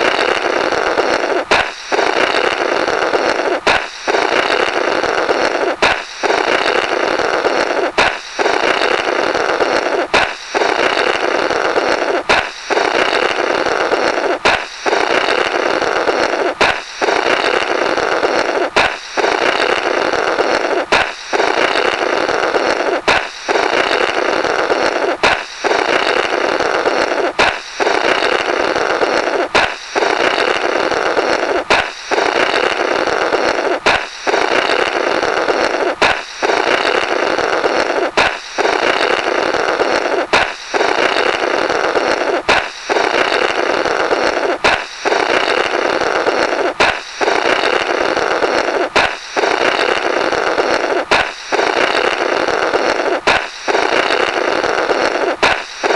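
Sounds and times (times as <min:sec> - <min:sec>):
sputtering raspberry through balloon: 0:00.0 - 0:55.9
balloon pop: 0:01.2 - 0:02.5, 0:03.4 - 0:04.7, 0:05.4 - 0:09.0, 0:09.6 - 0:15.5, 0:16.4 - 0:17.7, 0:18.3 - 0:28.5, 0:29.1 - 0:32.8, 0:33.4 - 0:48.0, 0:48.6 - 0:54.4, 0:55.1 - 0:55.9.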